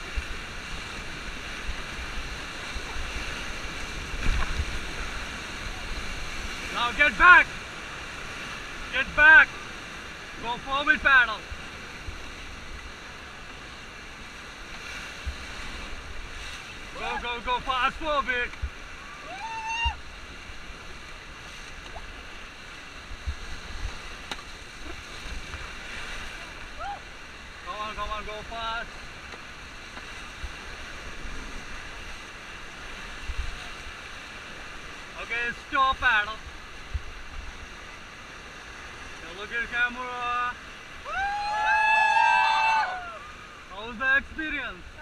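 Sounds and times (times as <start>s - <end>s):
whitewater rapids rushing: 0.0s - 11.8s, 12.4s - 37.3s, 39.2s - 45.0s.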